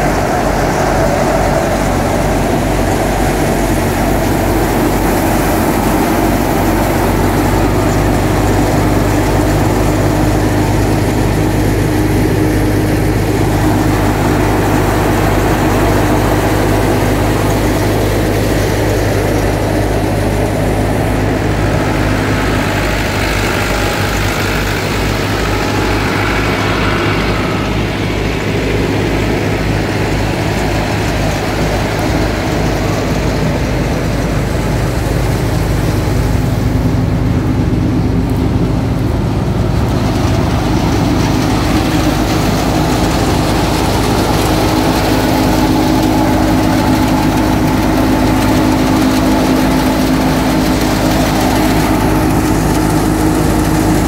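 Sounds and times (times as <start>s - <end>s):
thresher humming: 0.0s - 54.0s
tractor diesel engine running: 0.0s - 54.0s.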